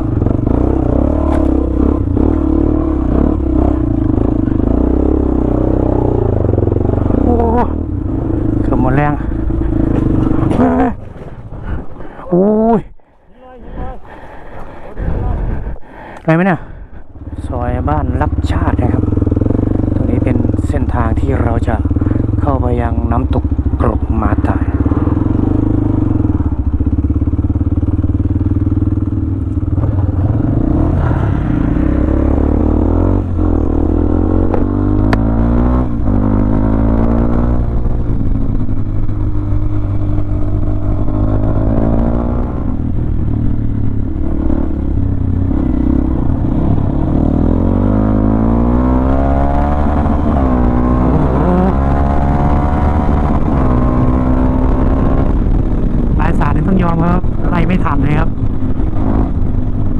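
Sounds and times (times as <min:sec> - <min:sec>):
motorcycle engine revving: 0:00.0 - 0:12.9, 0:16.5 - 0:59.9.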